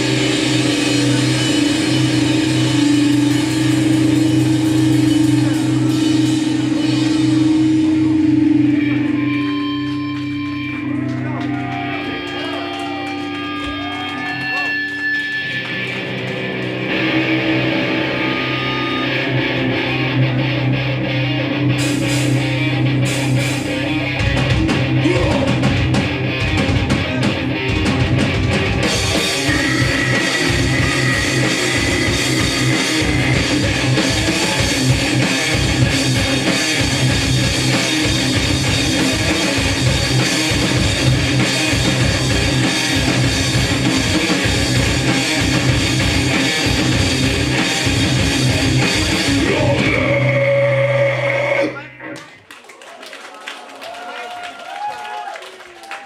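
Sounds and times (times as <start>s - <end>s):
drums: 0.0s - 51.7s
punk band playing live: 0.0s - 51.8s.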